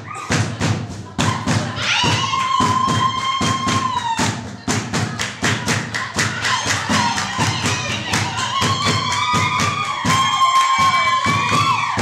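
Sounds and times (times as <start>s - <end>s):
group hand clapping: 0.3s - 12.0s.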